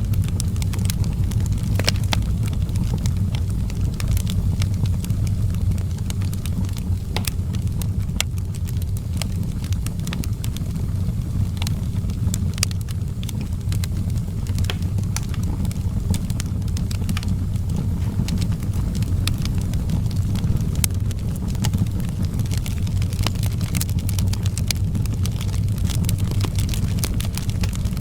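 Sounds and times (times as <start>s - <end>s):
fire crackling and popping: 0.0s - 28.0s
low rumble of flames: 0.0s - 28.0s.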